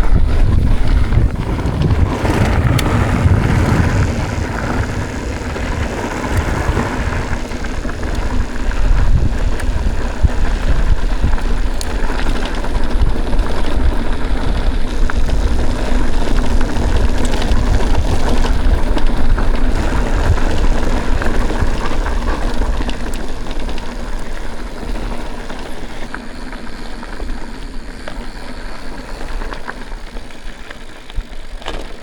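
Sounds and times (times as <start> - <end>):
wind buffeting microphone: 0.0 - 26.4
stones and bike rattling: 0.0 - 32.0
tyres rolling over dirt trail: 0.0 - 32.0.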